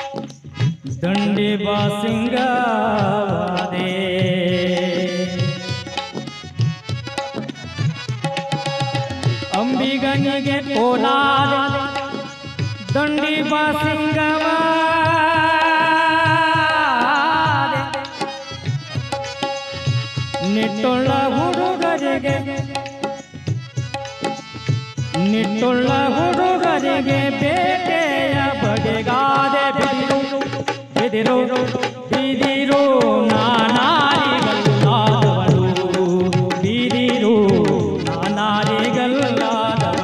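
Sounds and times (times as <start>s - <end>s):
hand drum rhythm: 0.0s - 40.0s.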